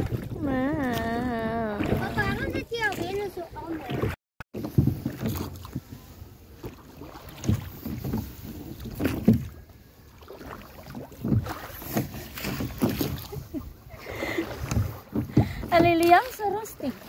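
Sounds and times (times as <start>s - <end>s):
oars pulling through water: 0.0s - 17.0s.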